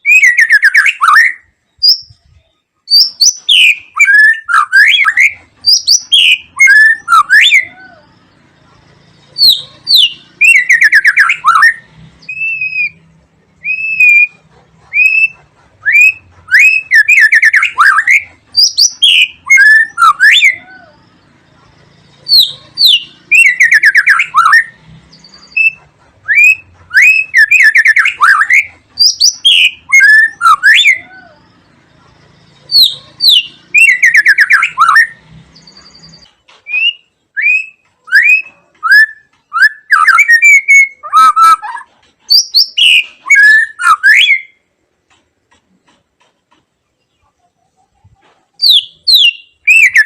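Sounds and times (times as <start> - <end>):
songbird singing whistled trills: 0.0 - 13.0, 13.6 - 44.6, 48.6 - 50.0.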